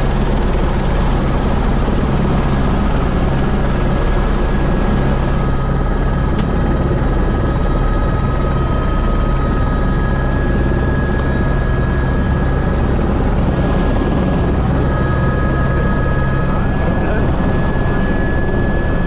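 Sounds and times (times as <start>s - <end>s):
helicopter rotor rumble: 0.0s - 19.0s
turbine whine: 0.0s - 19.0s.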